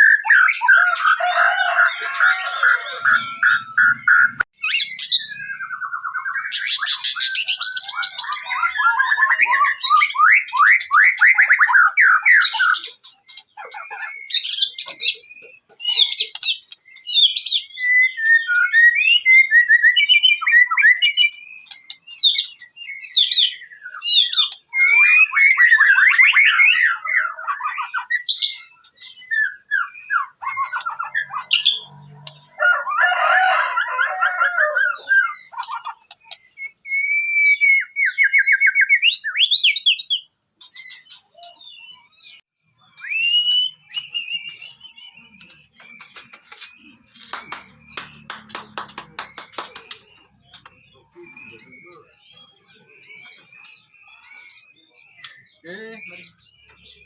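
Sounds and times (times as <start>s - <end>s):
songbird singing varied song: 0.0s - 32.6s, 33.2s - 57.0s.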